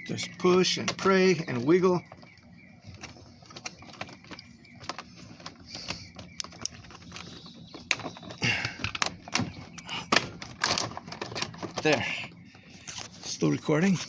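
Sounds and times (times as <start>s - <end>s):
plastic clicks knocks and scrapes: 0.2s - 13.2s.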